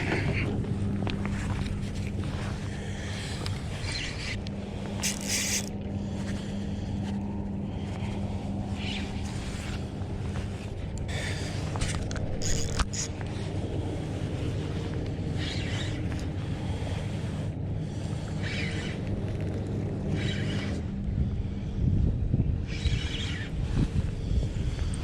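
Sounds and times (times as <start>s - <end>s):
water lapping around kayak: 0.0s - 20.8s
wind buffeting microphone: 0.0s - 25.0s.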